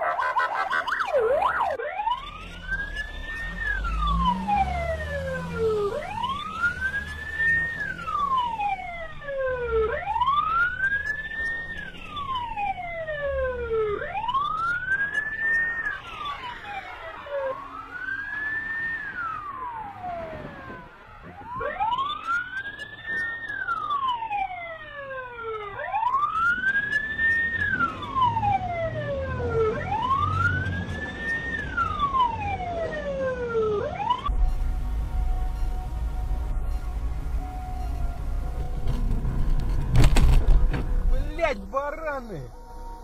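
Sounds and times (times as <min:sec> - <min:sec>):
wailing siren: 0:00.0 - 0:43.0.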